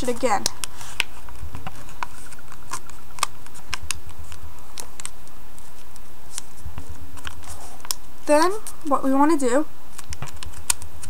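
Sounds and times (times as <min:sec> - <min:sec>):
paper crinkling while folded: 0:00.0 - 0:08.9.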